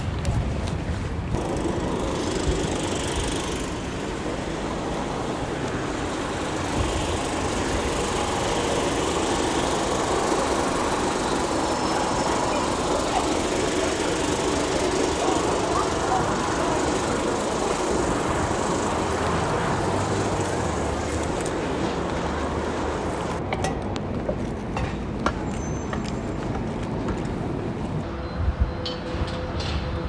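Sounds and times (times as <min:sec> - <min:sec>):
vehicle engines rumbling: 0:00.0 - 0:30.0.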